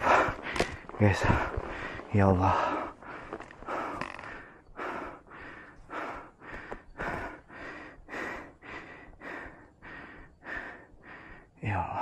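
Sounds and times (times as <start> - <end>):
heavy rapid breathing: 0.0 - 12.0.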